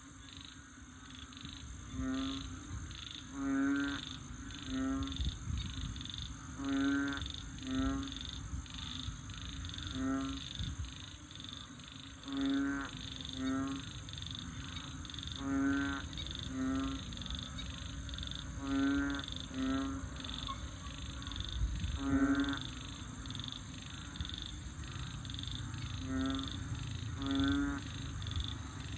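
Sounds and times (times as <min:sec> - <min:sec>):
frogs croaking: 0:00.0 - 0:28.9
high rapid frog peeping: 0:00.2 - 0:28.9.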